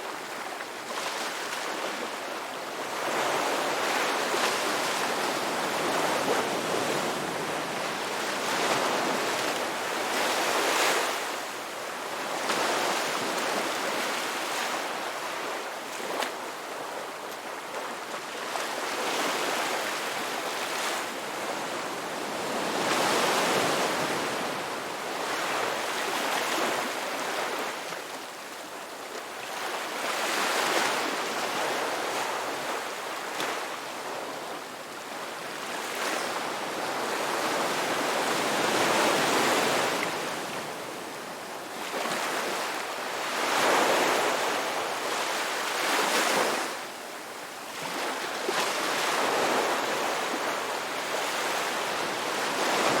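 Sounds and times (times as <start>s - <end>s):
ocean waves breaking and washing: 0.0s - 53.0s.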